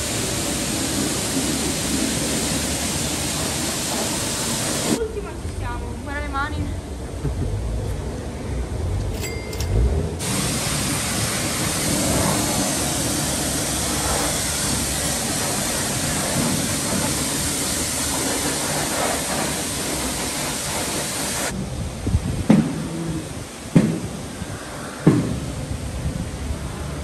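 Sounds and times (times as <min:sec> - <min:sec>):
high-pressure water jet hissing: 0:00.0 - 0:05.0, 0:10.2 - 0:27.0.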